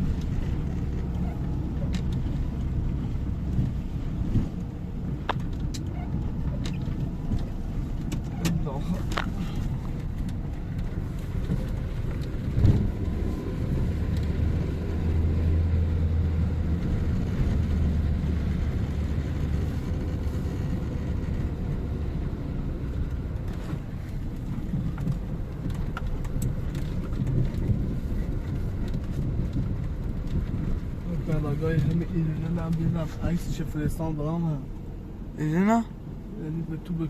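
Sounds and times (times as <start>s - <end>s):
street noise rumble: 0.0s - 37.0s.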